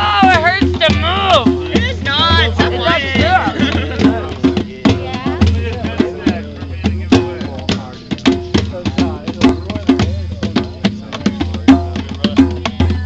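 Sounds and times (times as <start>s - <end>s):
acoustic guitars playing: 0.0s - 12.7s
low drum beat: 0.0s - 13.0s
quick percussion hits: 0.0s - 13.0s.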